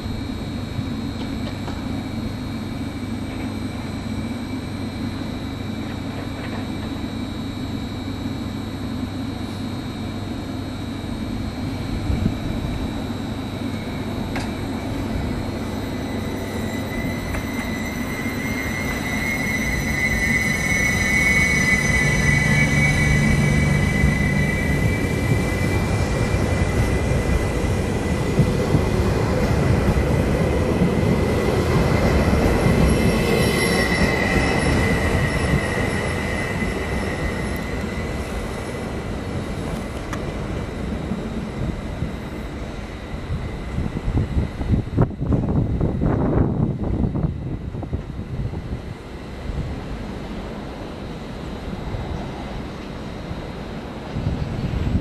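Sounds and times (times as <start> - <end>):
train passing: 0.0 - 55.0
train wheels squealing: 0.4 - 48.7.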